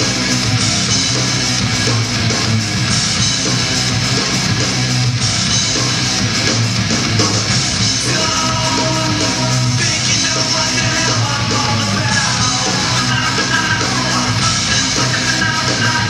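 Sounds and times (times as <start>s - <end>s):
rock music with strummed guitar: 0.0s - 16.0s.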